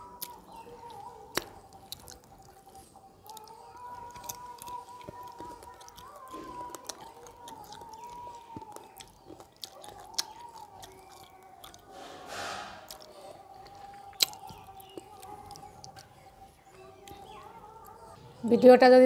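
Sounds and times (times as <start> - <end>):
chewing and lip-smacking: 0.0 - 12.1, 12.7 - 18.4
mouth clicks: 0.0 - 18.2.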